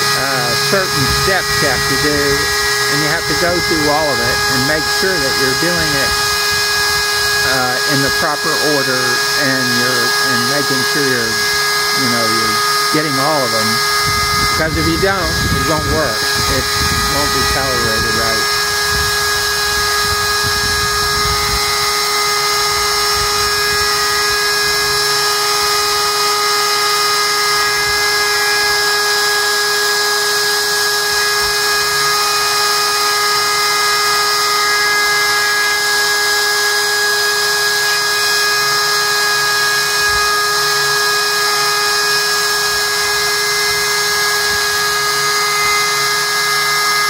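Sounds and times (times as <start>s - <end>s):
router whining carving wood: 0.0s - 47.0s.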